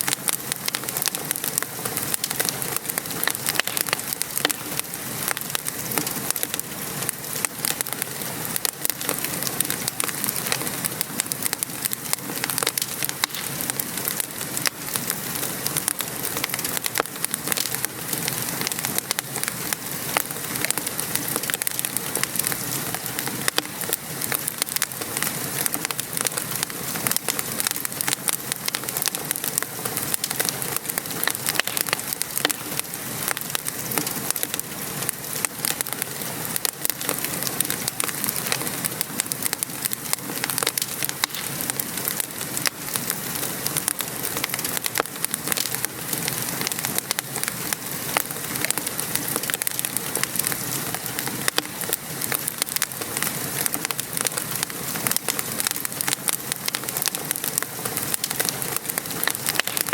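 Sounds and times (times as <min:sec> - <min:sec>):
rain pattering: 0:00.0 - 0:59.9
wood fire crackling: 0:00.0 - 0:59.9.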